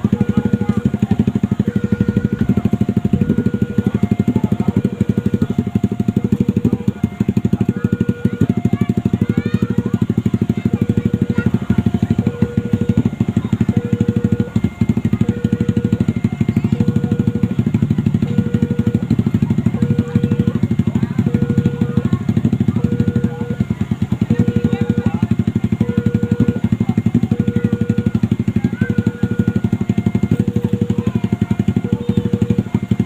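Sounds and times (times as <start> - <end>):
low drone of running engines: 0.0 - 33.0
two-tone level crossing alarm: 0.0 - 33.0.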